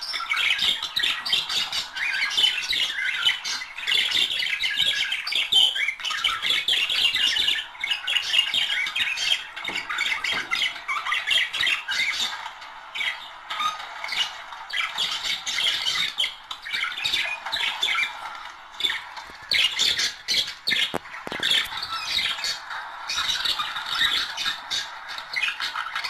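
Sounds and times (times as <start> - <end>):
budgerigars chirping and squawking: 0.0 - 26.0.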